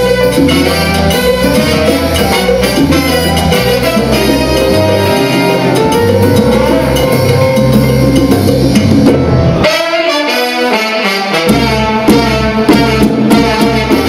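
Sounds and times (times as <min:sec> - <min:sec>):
horns playing: 0:00.0 - 0:07.7, 0:09.6 - 0:14.0
salsa music: 0:00.0 - 0:14.0.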